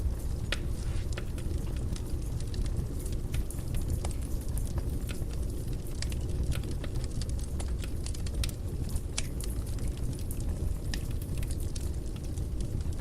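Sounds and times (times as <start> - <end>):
low rumble of flames: 0.0 - 13.0
wood crackling and popping: 0.0 - 13.0.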